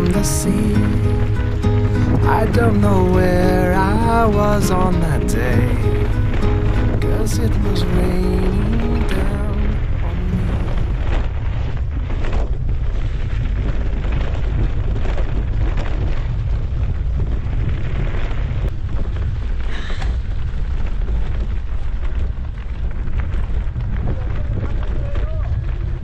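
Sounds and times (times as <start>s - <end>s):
low rumble: 0.0s - 26.0s
wind buffeting microphone: 0.0s - 26.0s.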